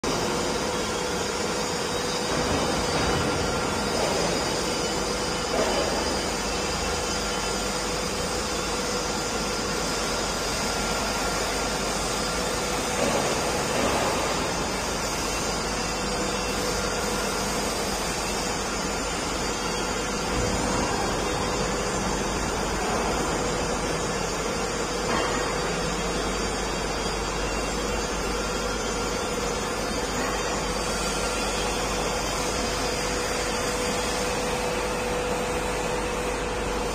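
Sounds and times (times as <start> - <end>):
machine hum: 0.0 - 36.9.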